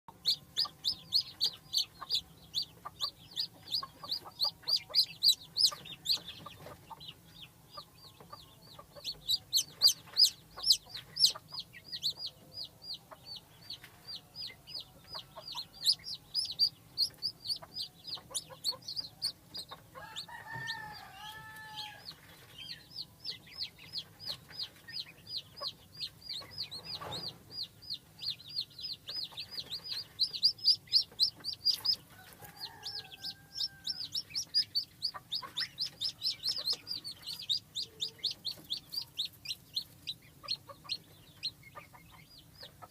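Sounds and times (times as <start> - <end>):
chicks peeping: 0.1 - 42.9.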